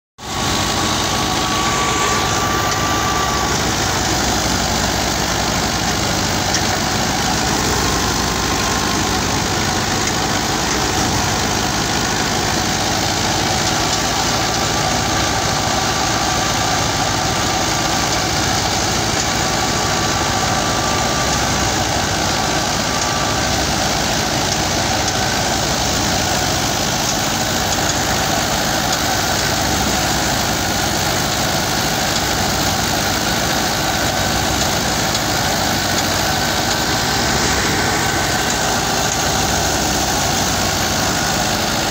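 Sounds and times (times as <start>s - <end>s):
thresher hum and rattle: 0.2s - 41.9s
tractor diesel engine running: 0.2s - 41.9s.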